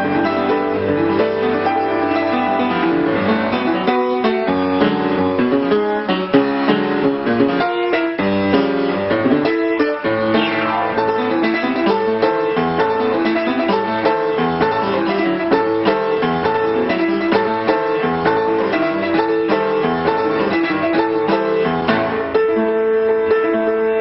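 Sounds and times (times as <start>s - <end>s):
instrumental keyboard music: 0.0s - 24.0s.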